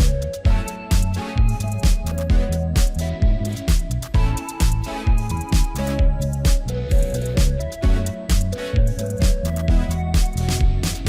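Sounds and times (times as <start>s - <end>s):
electronic music with drums: 0.0s - 11.0s.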